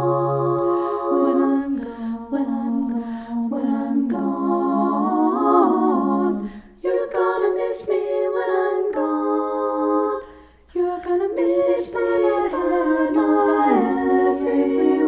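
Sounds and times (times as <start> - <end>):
women singing a cappella: 0.0 - 15.0.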